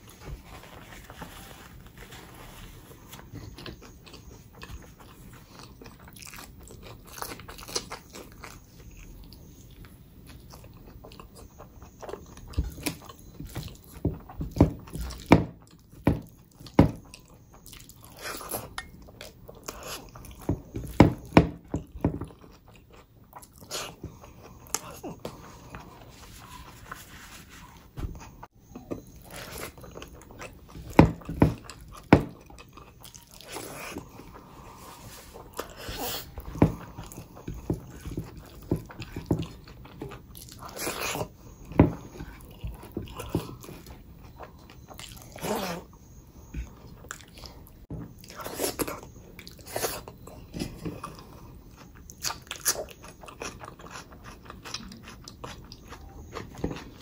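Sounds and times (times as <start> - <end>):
person chewing and crunching: 2.0 - 27.5, 28.2 - 57.0.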